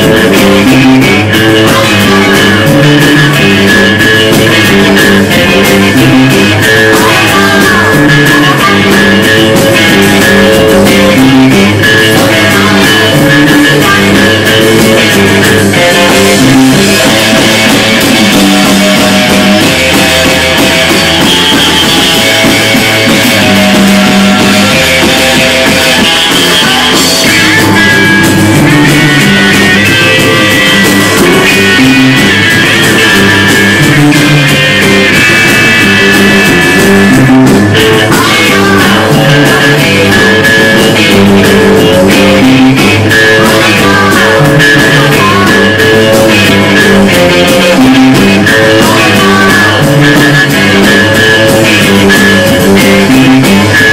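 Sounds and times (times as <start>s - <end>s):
bass guitar: 0.0s - 53.9s
drum kit: 0.0s - 53.9s
electric guitar: 0.0s - 53.9s.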